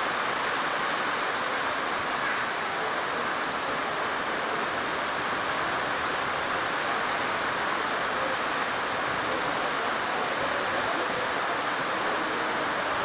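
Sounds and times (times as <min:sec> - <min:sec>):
rain on pavement: 0:00.0 - 0:13.0.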